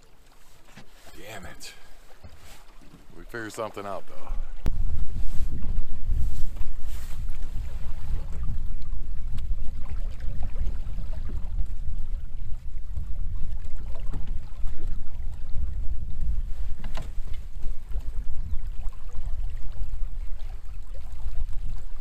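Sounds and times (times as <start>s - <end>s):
water against boat hull: 0.0s - 22.0s
wind rumbling on microphone: 3.8s - 22.0s.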